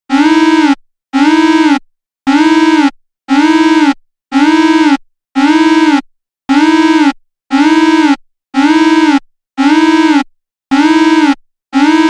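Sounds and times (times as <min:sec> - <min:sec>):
pulsing alarm tone: 0:00.1 - 0:12.0.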